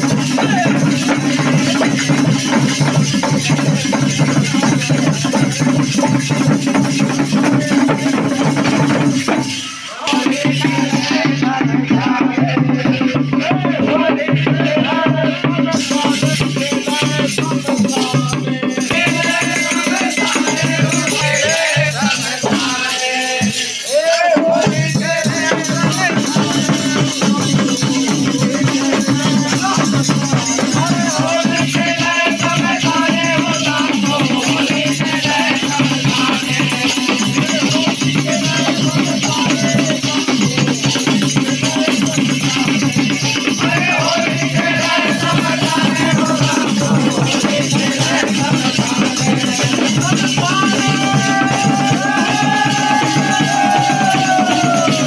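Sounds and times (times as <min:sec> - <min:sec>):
rattles jingling: 0:00.0 - 0:14.0, 0:14.7 - 0:55.0
hand drum beat: 0:00.0 - 0:55.0
people singing folk song: 0:00.0 - 0:55.0.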